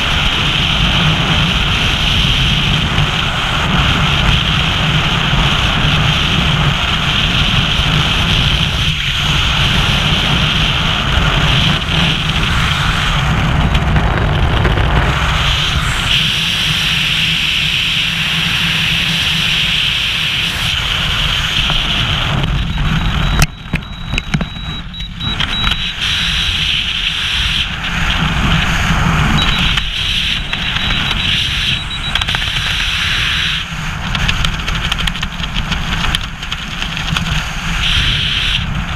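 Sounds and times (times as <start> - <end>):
wind roaring over microphone: 0.0 - 38.9.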